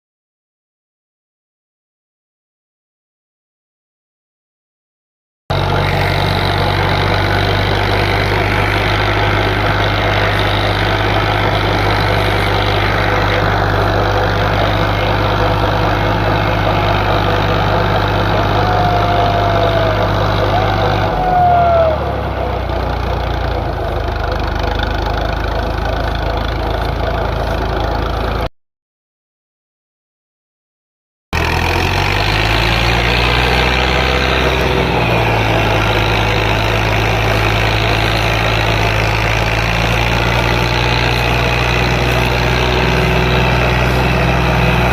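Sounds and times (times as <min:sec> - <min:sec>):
tractor diesel engine running: 0:05.5 - 0:28.5, 0:31.4 - 0:44.9.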